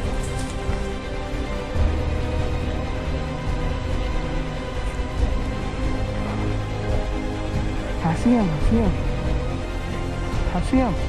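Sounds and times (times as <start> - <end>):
background music with low bass: 0.0 - 11.0.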